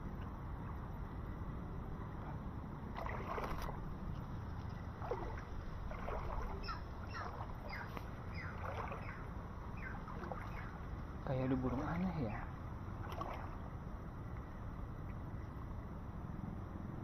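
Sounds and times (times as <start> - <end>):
low rush of water: 0.0 - 17.0.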